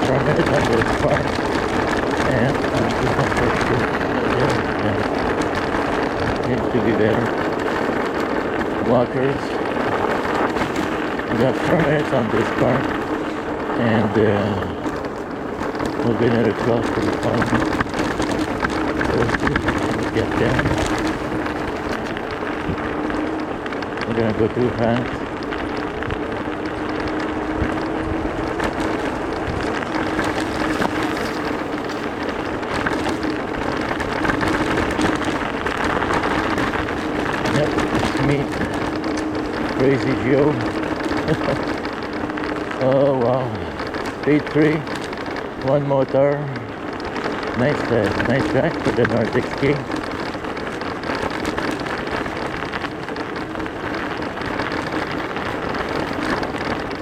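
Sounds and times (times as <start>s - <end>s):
electric drive whine: 0.0s - 57.0s
wind and tyre noise: 0.0s - 57.0s.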